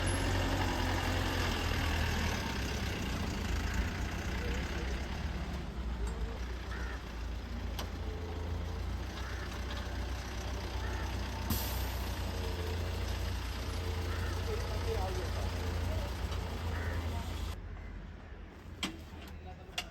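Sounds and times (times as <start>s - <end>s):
diesel engine rumbling: 0.0s - 17.6s.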